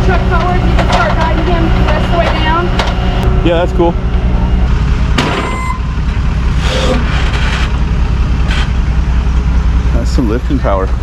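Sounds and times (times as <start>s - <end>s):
large vehicle engine running: 0.0s - 11.0s.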